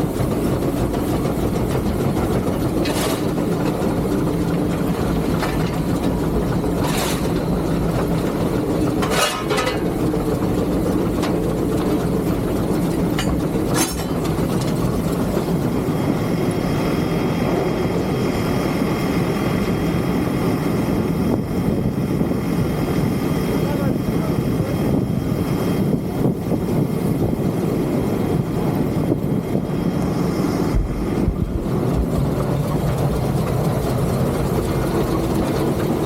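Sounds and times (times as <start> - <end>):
steam locomotive rumbling: 0.0 - 36.0.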